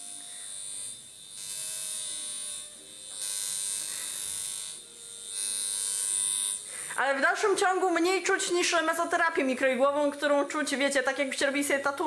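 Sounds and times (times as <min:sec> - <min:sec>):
electric comb buzzing with hiss: 0:00.0 - 0:12.0.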